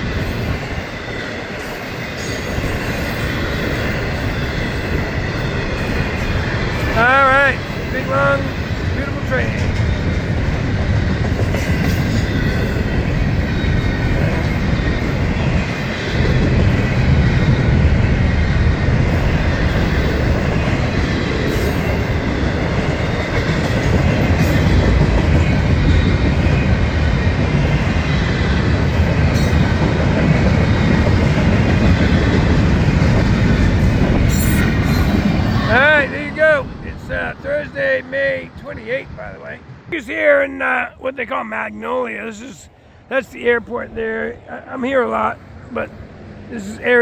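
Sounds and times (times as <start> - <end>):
freight train rolling past: 0.0 - 47.0.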